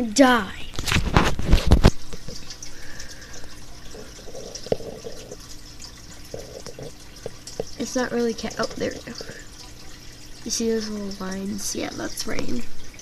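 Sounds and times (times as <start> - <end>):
water drips and taps: 0.0 - 13.0.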